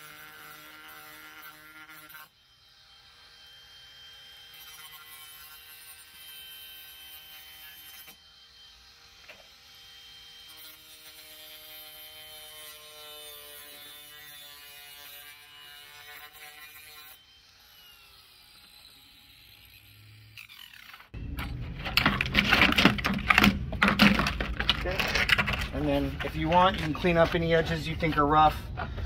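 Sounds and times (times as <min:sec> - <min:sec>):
angle grinder whine: 0:00.0 - 0:29.0.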